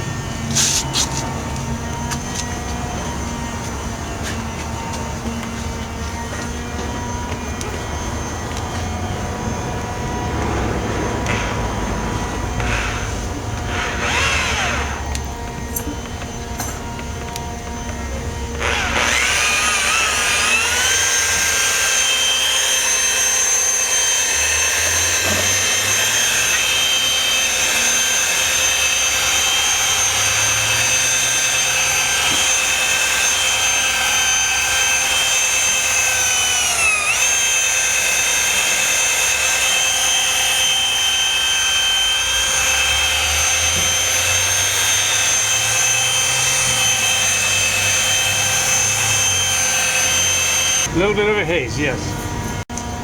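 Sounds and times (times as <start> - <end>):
machine polisher whining: 0.0 - 53.0.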